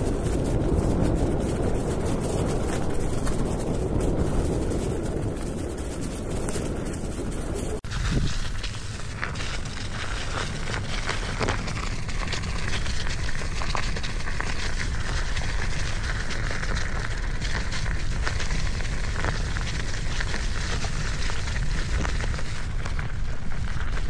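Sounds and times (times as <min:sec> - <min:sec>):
crackle of small clicks: 0:00.0 - 0:24.0
wind rumbling on microphone: 0:00.0 - 0:24.0.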